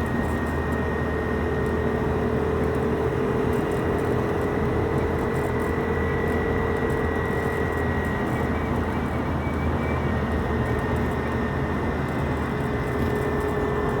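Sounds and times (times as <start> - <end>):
motorway traffic: 0.0 - 14.0.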